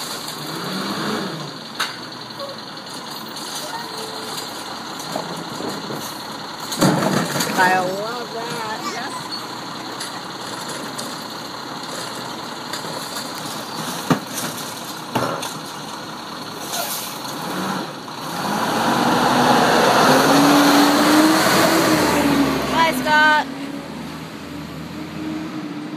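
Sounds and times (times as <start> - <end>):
garbage truck diesel engine: 0.0 - 25.9.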